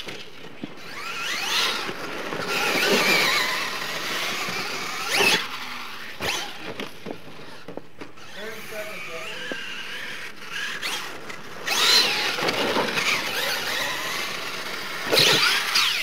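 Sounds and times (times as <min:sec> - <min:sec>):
tyres throwing loose dirt: 0:00.0 - 0:08.7, 0:09.3 - 0:16.0
toy truck motor whining: 0:00.0 - 0:16.0.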